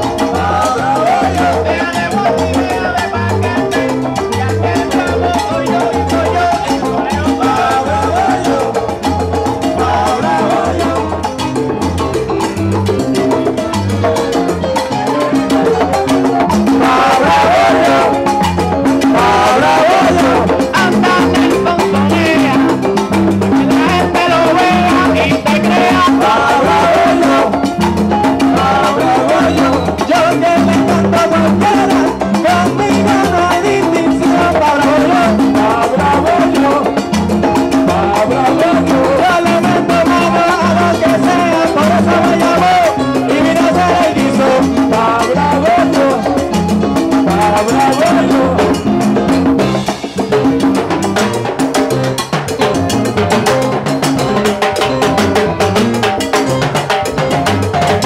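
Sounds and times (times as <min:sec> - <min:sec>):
men singing into microphones: 0:00.0 - 0:12.5, 0:14.2 - 0:50.0
bass line: 0:00.0 - 0:58.0
congas and timbales rhythm: 0:00.0 - 0:58.0.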